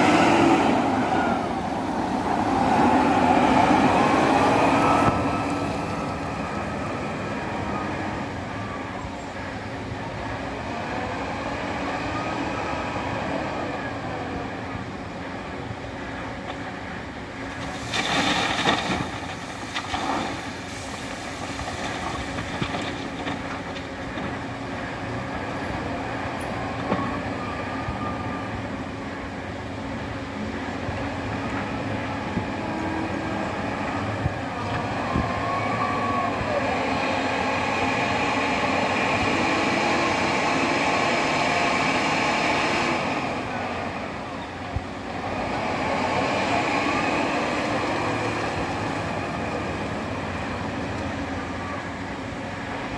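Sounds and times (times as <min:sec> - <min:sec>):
diesel truck engine droning: 0:00.0 - 0:52.9.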